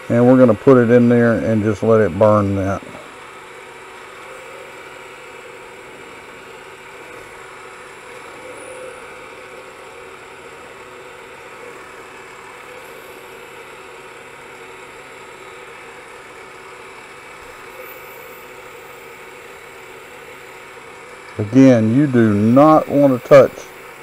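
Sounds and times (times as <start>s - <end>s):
wire rubbing on spinning wood: 0.0s - 24.0s
wood lathe running: 0.0s - 24.0s.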